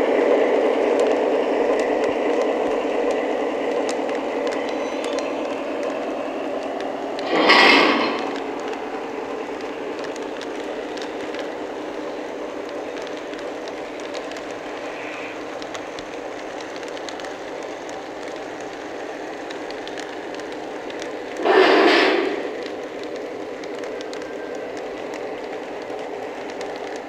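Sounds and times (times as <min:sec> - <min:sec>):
model train rolling on track: 0:00.0 - 0:27.0.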